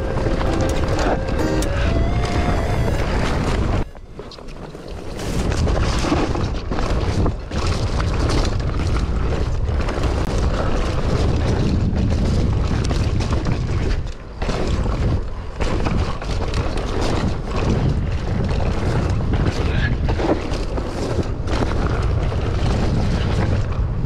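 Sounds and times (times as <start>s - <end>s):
bike rolling on dirt trail: 0.0s - 24.0s
wind buffeting camera: 0.0s - 24.0s.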